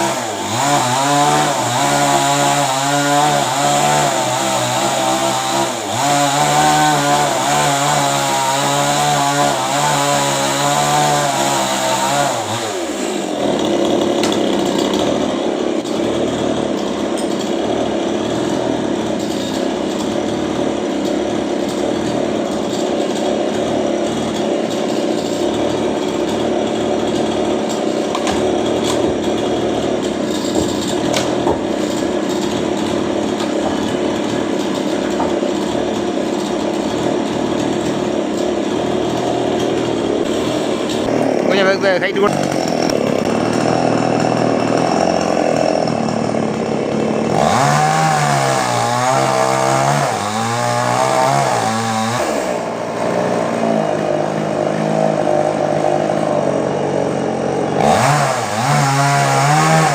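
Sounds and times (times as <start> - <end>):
chainsaw engine running: 0.0 - 59.9.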